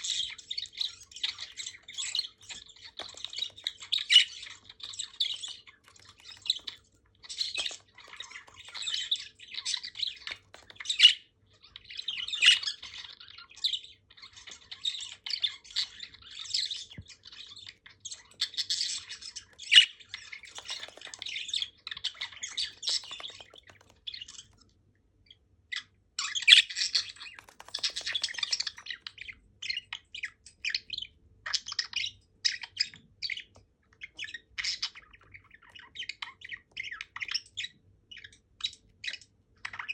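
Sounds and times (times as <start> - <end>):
budgerigars chirping and chattering: 0.0 - 24.6, 25.3 - 39.9.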